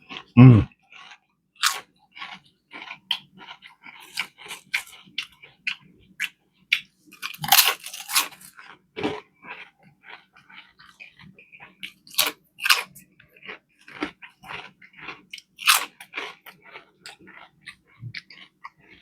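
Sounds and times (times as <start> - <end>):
crunching and chewing food: 0.0 - 19.0.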